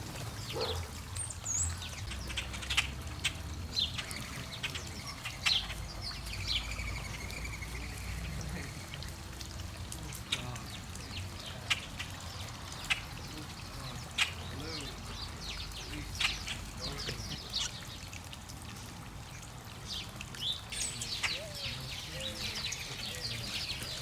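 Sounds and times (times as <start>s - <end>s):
small birds chirping: 0.0s - 24.0s
water trickling: 0.0s - 24.0s.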